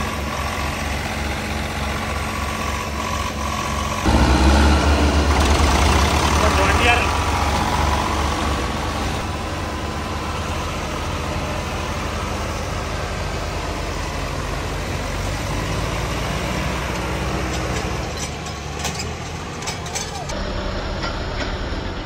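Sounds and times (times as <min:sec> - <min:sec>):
tractor diesel engines under load: 0:00.0 - 0:22.0.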